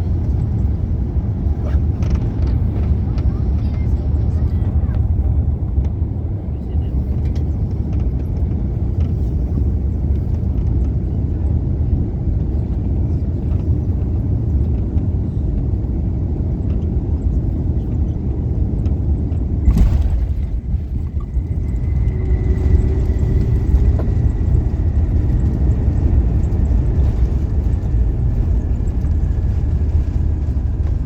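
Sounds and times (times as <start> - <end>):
vehicle low rumble: 0.0 - 31.0.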